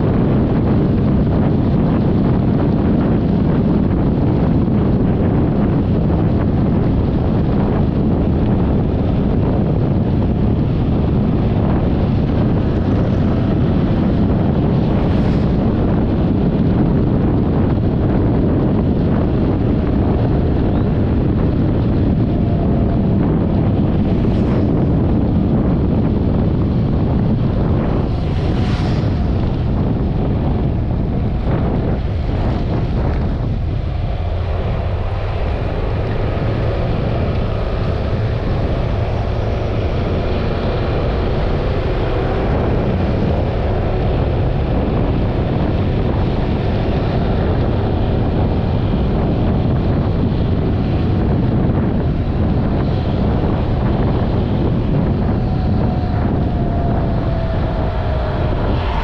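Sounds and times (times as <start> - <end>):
road rumble: 0.0 - 59.0
wind buffeting microphone: 0.0 - 59.0.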